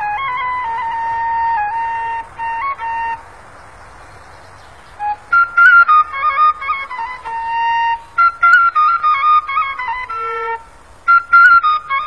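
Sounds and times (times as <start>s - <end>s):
flute-like solo melody: 0.0s - 3.3s, 5.0s - 12.0s
faint hiss: 0.0s - 12.0s.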